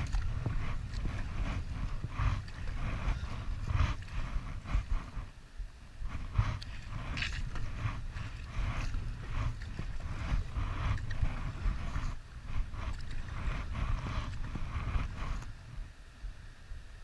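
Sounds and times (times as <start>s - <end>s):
paddle splashing in water: 0.0s - 5.4s, 6.1s - 15.6s
low rumble: 0.0s - 16.4s.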